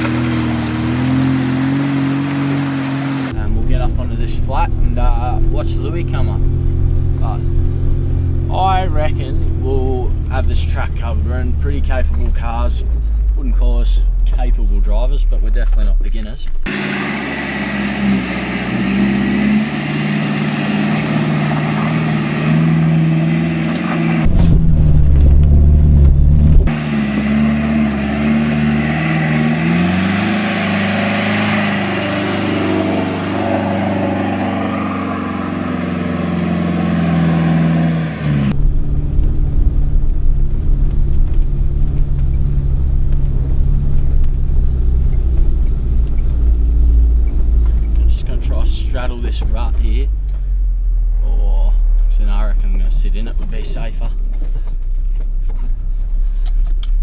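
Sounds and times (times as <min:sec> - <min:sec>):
off-road engine revving under load: 0:00.0 - 0:57.0.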